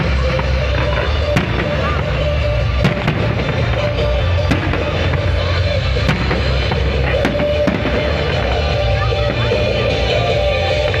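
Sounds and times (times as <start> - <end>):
fireworks bangs: 0.0 - 11.0
loud music: 0.0 - 11.0.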